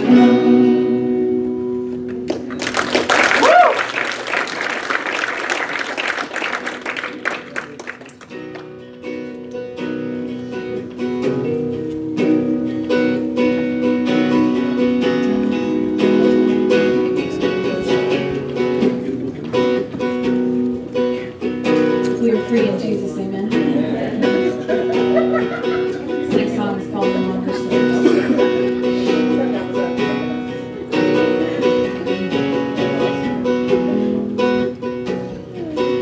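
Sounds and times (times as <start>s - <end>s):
acoustic guitar strumming: 0.0s - 2.6s, 6.6s - 36.0s.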